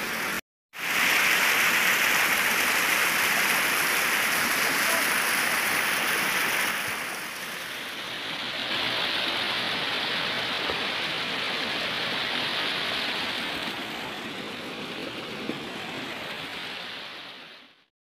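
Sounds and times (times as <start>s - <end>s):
river water rushing over stones: 0.0s - 17.9s.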